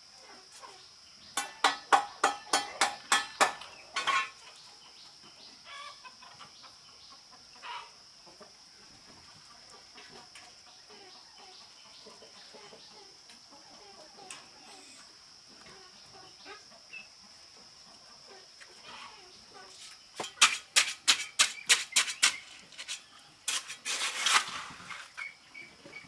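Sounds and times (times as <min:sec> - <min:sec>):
chicken clucking: 0:01.5 - 0:23.4.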